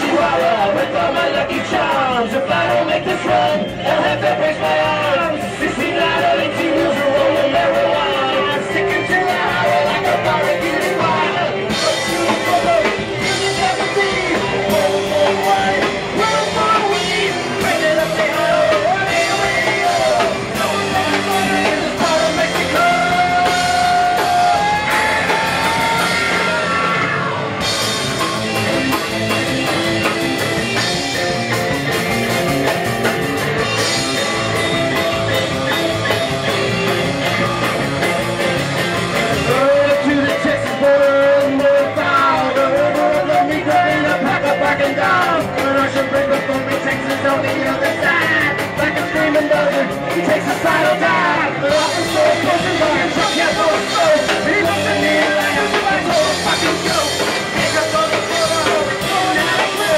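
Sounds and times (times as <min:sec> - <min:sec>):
drum kit: 0:00.0 - 0:59.9
electric guitar: 0:00.0 - 0:59.9
person singing: 0:00.0 - 0:59.9.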